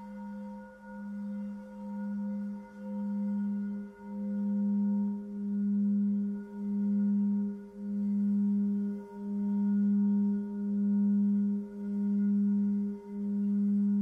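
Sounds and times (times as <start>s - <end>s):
singing bowl tone: 0.0s - 14.0s.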